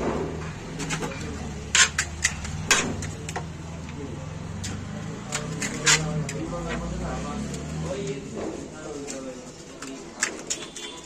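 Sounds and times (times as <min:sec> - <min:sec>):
sharp clicks and taps of food handling: 0:00.0 - 0:11.0.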